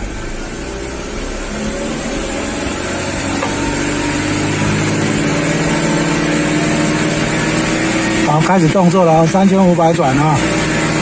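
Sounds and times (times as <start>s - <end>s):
car engine revving up: 0.0s - 11.0s.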